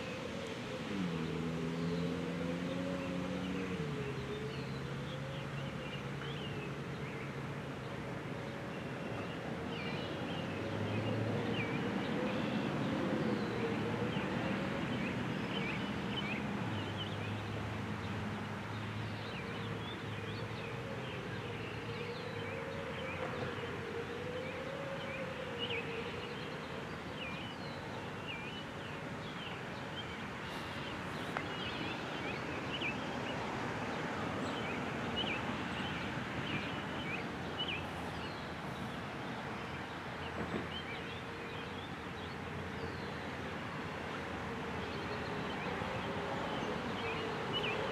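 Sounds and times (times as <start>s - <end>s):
distant warning siren: 0.0s - 16.6s, 18.9s - 43.9s.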